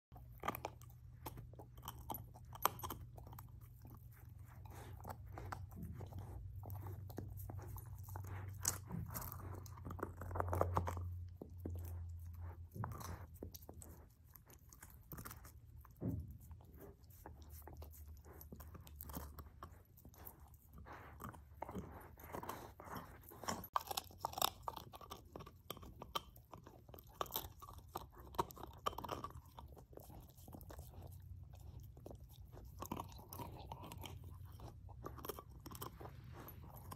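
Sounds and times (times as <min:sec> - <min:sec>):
puppy chewing on bone: 0:00.1 - 0:36.9
teeth clicking on bone: 0:00.1 - 0:36.9.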